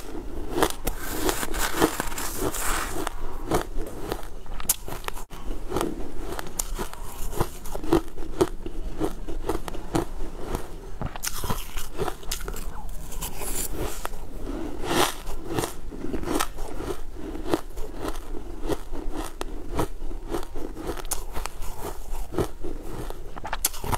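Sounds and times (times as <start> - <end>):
crushed ice being chewed: 0.0 - 23.9.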